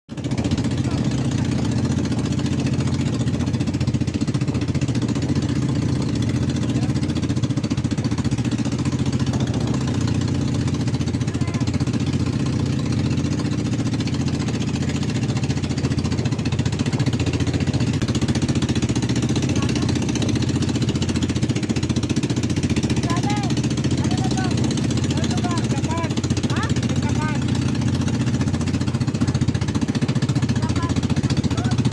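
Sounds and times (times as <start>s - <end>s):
motor engine chugging: 0.1s - 31.9s.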